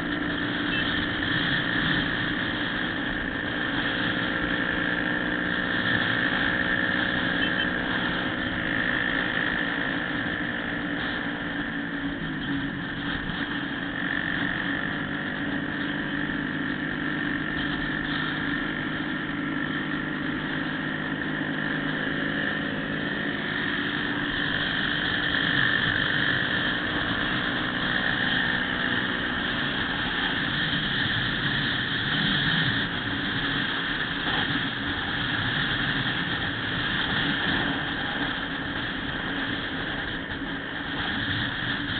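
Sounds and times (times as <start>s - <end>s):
motorcycle engine cruising: 0.0s - 41.9s
road noise: 0.0s - 41.9s.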